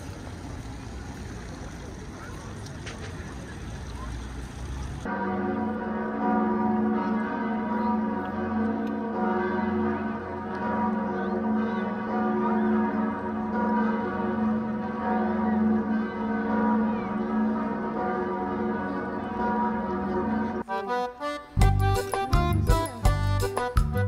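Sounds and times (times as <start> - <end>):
church bells pealing: 3.5 - 23.7.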